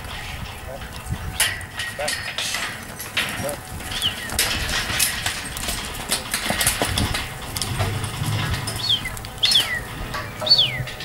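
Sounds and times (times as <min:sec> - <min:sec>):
hooves scuffling on dirt: 0:00.0 - 0:11.0
low hum: 0:00.0 - 0:11.0
steel rails knocking and rattling: 0:00.0 - 0:11.0.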